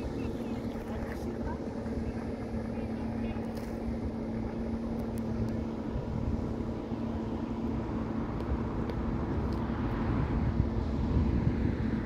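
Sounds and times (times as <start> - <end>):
engine drone: 0.0 - 12.0
rushing wind and water: 0.0 - 12.0.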